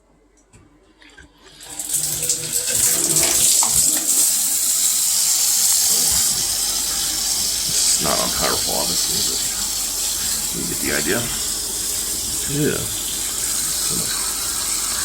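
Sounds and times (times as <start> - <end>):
water running from tap: 1.2 - 15.0.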